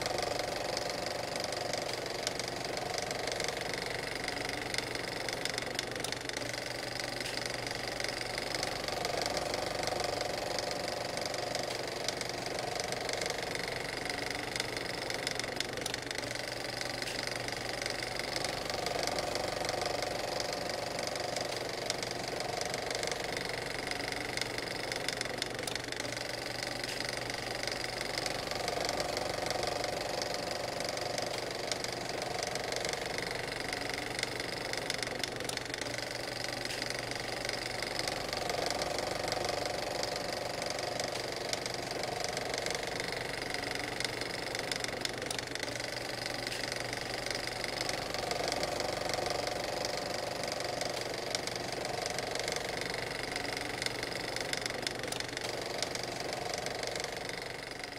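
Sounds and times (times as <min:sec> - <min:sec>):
engine idling with fine ticking: 0:00.0 - 0:57.9.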